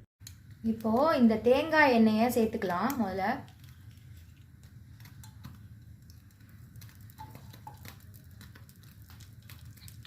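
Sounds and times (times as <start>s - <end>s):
low steady hum: 0.2s - 10.0s
oil crackling in a pan: 0.2s - 10.0s.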